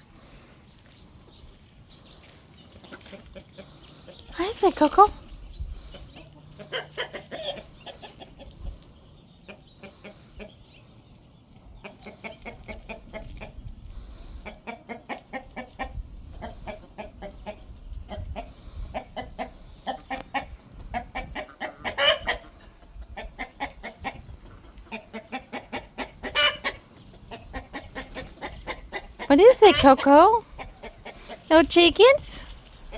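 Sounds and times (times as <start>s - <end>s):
hens clucking: 0.0s - 32.9s.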